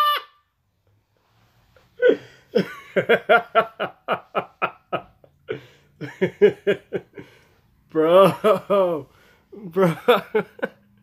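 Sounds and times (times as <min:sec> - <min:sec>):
man laughing hard: 0:02.0 - 0:10.8.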